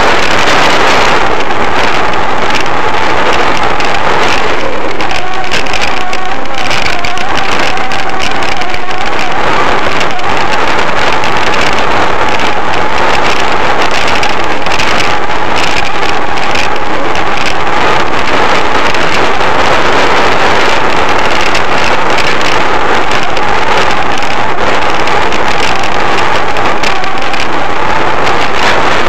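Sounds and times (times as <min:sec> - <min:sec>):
bicycle tyres rolling on asphalt: 0:00.0 - 0:29.0
wind rushing on microphone: 0:00.0 - 0:29.0.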